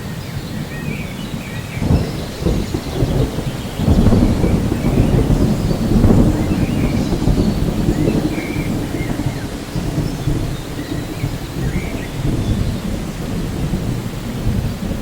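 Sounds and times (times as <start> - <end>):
birds chirping faintly: 0.0 - 14.9
steady rain: 0.0 - 15.0
rolling thunder: 0.6 - 15.0.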